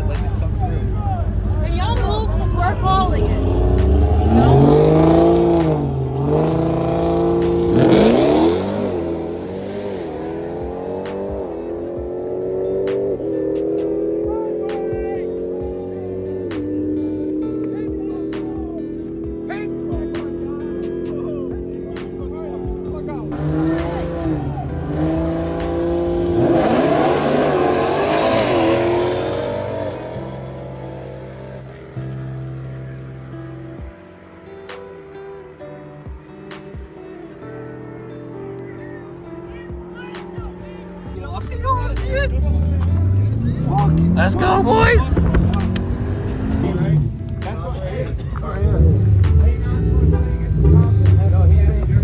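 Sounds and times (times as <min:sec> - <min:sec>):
car engine revving: 0:00.0 - 0:33.7, 0:37.2 - 0:52.0.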